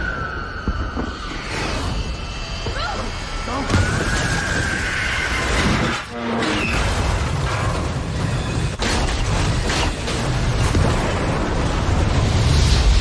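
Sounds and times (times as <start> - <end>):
deep rumble of explosions: 0.0 - 13.0.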